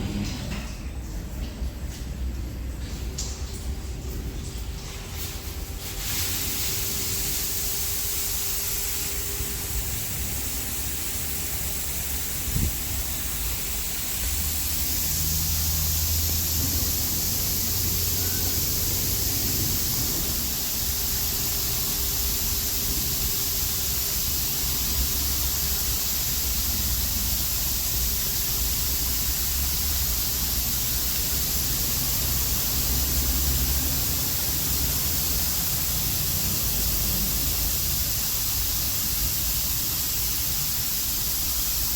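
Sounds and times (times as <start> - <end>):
car wash water jets hissing: 0.0 - 41.9
low machine hum: 0.0 - 41.9.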